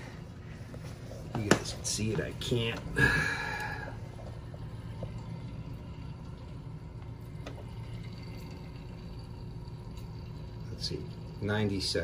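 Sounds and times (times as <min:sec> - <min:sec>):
boiler low hum: 0:00.0 - 0:12.0
water rushing through pipes: 0:00.0 - 0:12.0.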